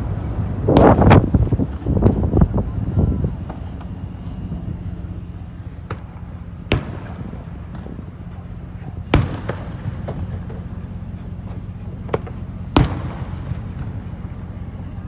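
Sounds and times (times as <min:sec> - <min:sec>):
fireworks bangs: 0:00.0 - 0:15.0
low hum: 0:00.0 - 0:15.0.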